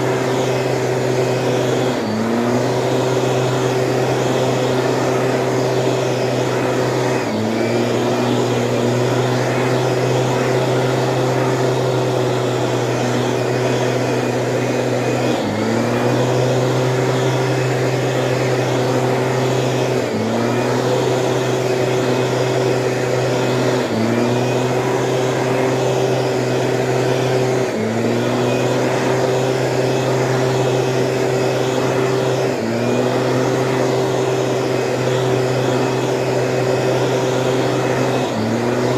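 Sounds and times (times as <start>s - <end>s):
two-stroke sprayer engine running: 0.0s - 38.9s.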